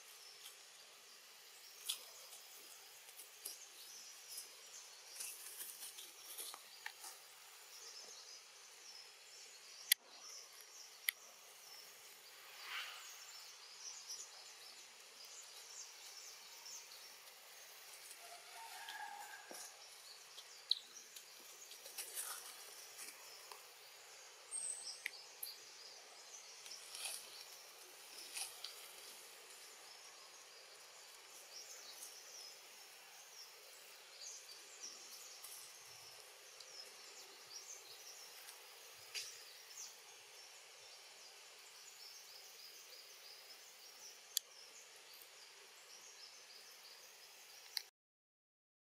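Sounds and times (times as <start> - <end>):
birds chirping: 0.0 - 47.9
insects chirping: 0.0 - 47.9.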